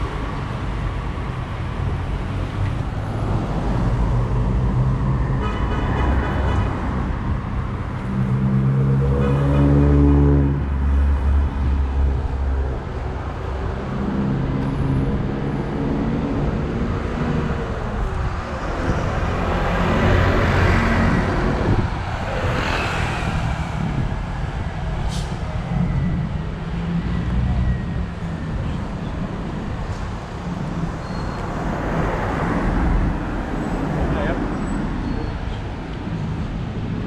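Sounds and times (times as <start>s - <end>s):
traffic engines running: 0.0s - 37.0s.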